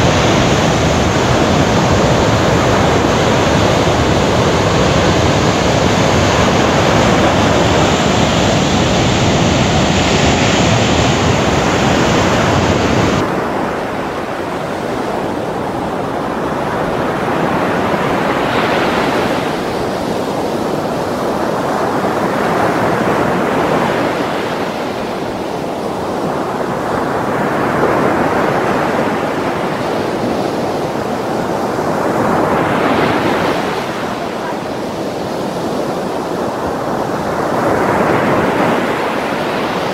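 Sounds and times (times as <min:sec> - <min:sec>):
surf crashing on rocks: 0:00.0 - 0:39.9.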